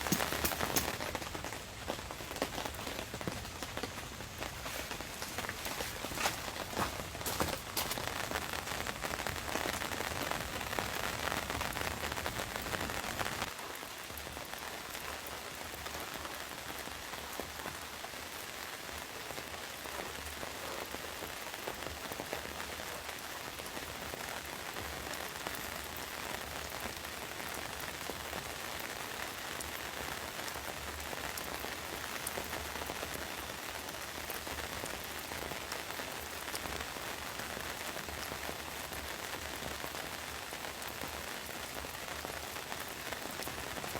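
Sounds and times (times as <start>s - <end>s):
rain falling on a surface: 0.0s - 43.9s.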